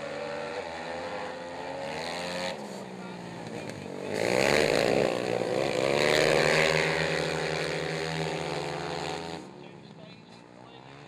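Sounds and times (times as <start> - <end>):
quad bike engines at high revs: 0.0 - 11.0.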